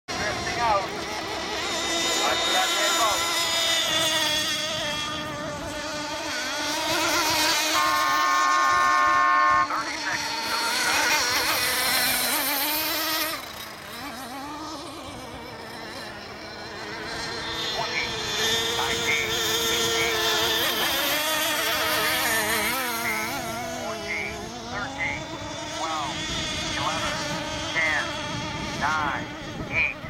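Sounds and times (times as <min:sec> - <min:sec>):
high-pitched model boat engines whining: 0:00.1 - 0:30.0.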